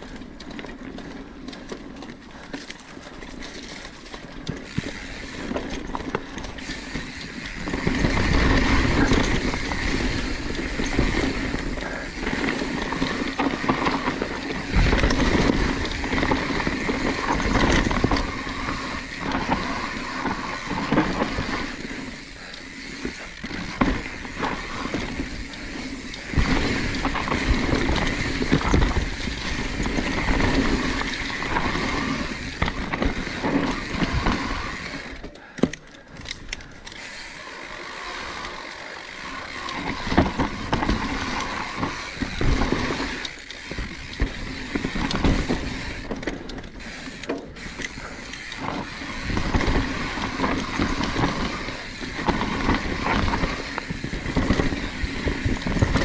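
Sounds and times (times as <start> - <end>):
tyres rolling and skidding on dirt: 0.0 - 35.4, 36.9 - 56.0
bike knocks and rattles: 0.0 - 56.0.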